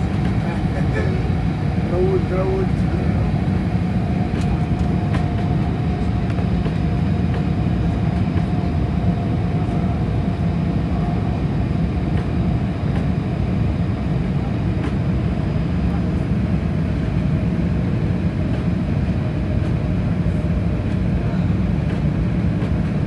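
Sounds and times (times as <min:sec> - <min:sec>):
airliner engine drone: 0:00.0 - 0:23.0.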